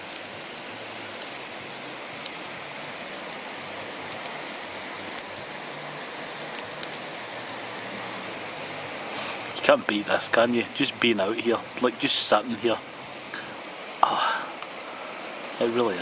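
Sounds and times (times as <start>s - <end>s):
sausage sizzling in a frying pan: 0.0s - 16.0s.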